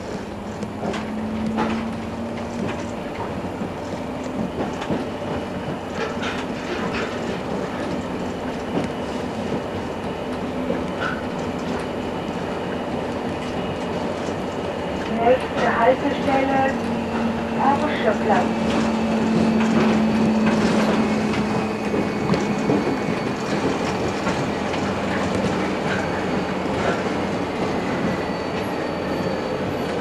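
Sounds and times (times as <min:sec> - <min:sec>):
trolleybus running rumble: 0:00.0 - 0:30.0.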